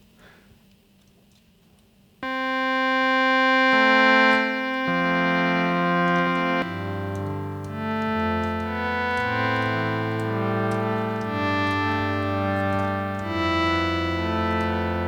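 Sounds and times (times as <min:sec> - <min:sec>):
sustained synthesizer tones: 0:02.2 - 0:15.0.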